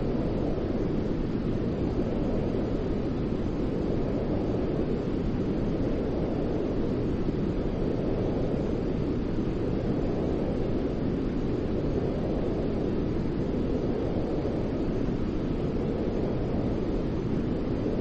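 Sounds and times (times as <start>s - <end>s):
deep white noise: 0.0s - 18.0s.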